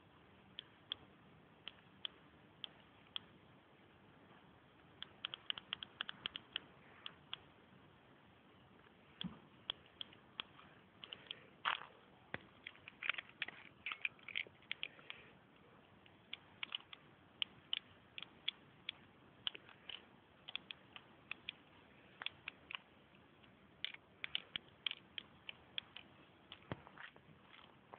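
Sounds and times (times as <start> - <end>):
low steady hiss: 0.0 - 27.9.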